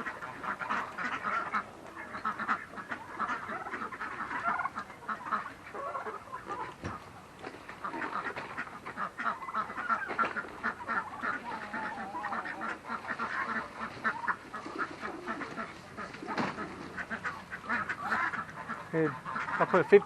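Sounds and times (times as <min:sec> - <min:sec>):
poultry flock calling: 0:00.0 - 0:20.0.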